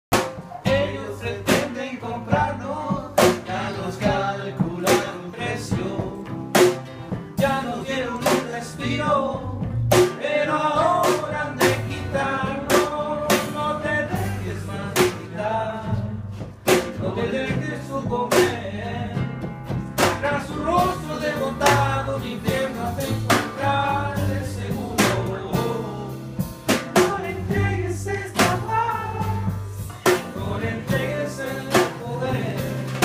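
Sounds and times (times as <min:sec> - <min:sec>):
bass guitar: 0:00.1 - 0:33.0
drum kit hits: 0:00.1 - 0:33.0
guitar: 0:00.1 - 0:33.0.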